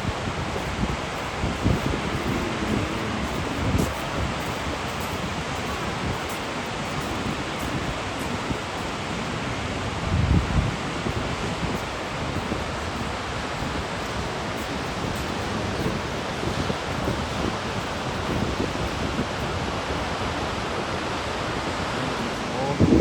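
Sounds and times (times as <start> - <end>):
waterfall rushing: 0.0 - 23.0
wind gust on microphone: 0.0 - 23.0.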